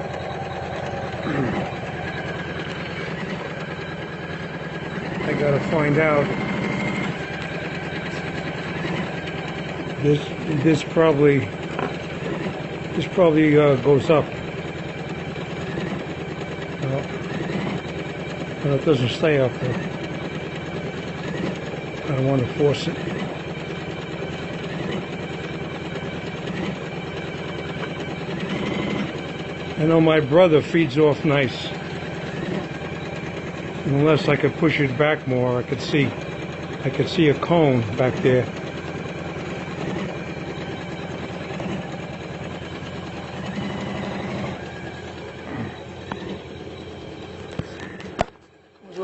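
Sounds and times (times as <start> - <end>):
embroidery machine stitching: 0.0 - 49.0.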